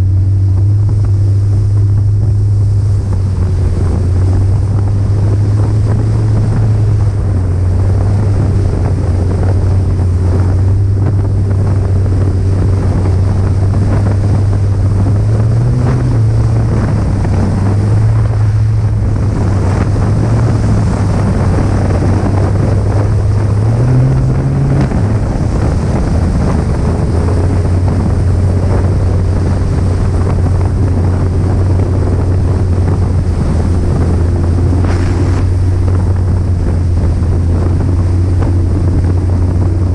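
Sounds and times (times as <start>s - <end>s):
snowmobile engine running: 0.0s - 39.9s
wind buffeting microphone: 0.0s - 39.9s.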